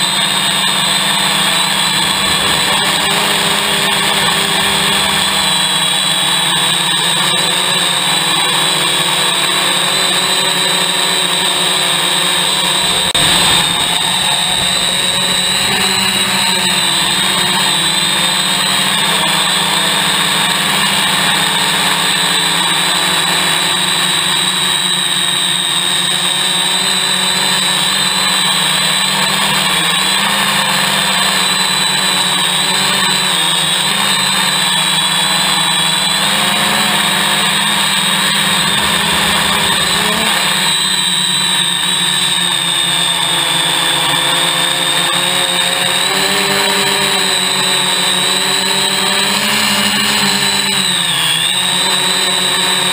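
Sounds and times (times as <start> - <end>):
drone propellers buzzing: 0.0 - 52.9.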